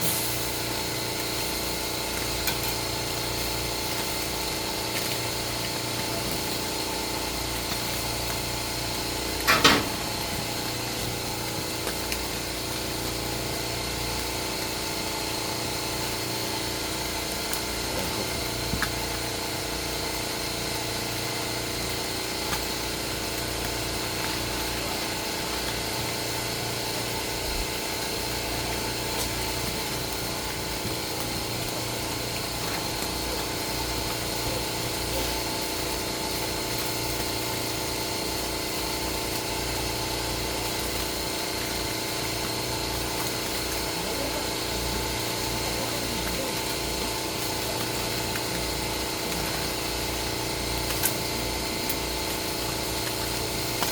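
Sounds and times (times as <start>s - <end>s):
mechanical hum: 0.0s - 53.9s.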